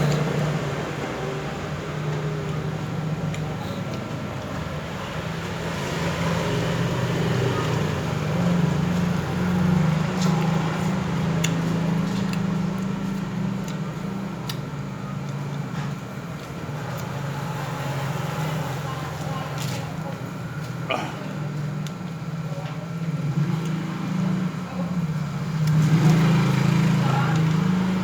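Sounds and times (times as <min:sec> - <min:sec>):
low hum of traffic: 0:00.0 - 0:28.0.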